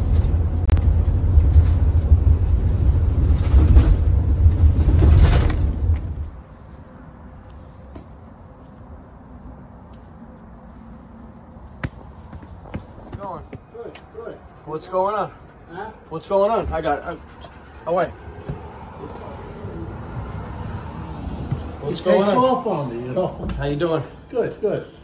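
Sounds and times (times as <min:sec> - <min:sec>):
road noise inside vehicle cabin: 0:00.0 - 0:25.0.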